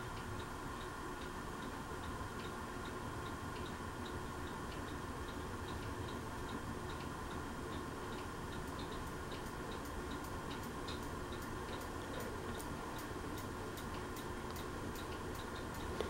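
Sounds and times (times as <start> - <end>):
ceiling fan humming: 0.0 - 16.0
light ticking of fan: 0.0 - 16.0.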